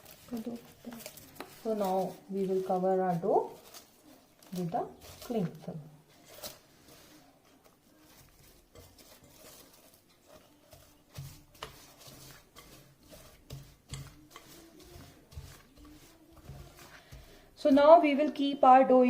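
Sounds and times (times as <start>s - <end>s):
cling film crinkling: 0.0s - 17.4s.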